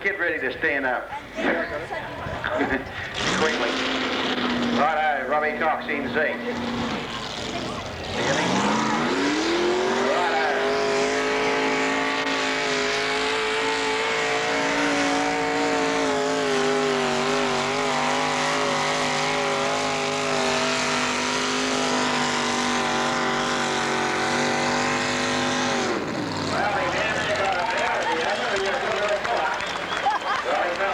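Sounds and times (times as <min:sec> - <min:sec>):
tractor engine at high revs: 0:02.4 - 0:30.9.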